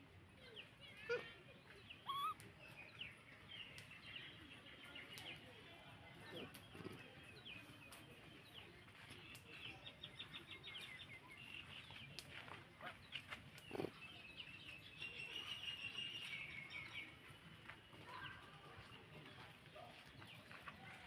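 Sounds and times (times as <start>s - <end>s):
small birds chirping: 0.4s - 21.0s.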